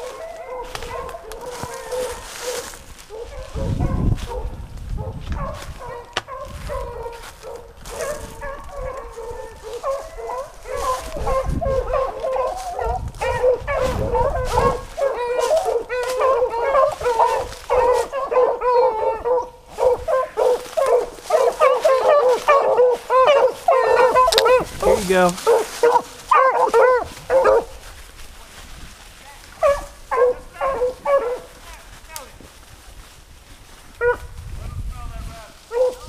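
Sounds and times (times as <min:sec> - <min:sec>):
dogs baying: 0:00.0 - 0:27.9, 0:29.6 - 0:31.6, 0:34.0 - 0:34.3, 0:35.7 - 0:36.0.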